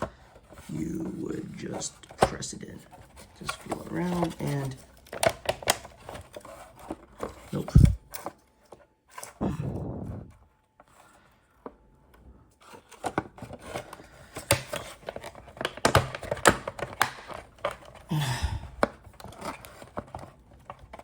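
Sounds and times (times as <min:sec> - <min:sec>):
plastic parts clicking and knocking: 0:00.0 - 0:09.5, 0:10.2 - 0:21.0
plastic rubbing rustle: 0:00.0 - 0:18.1, 0:18.8 - 0:21.0.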